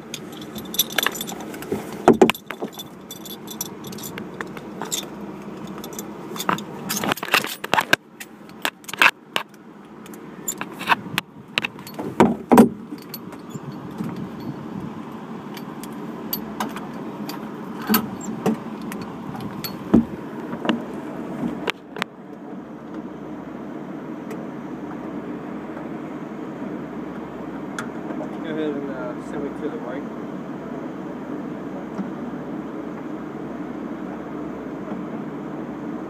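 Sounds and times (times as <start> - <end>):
truck engine hum: 0.0 - 36.0.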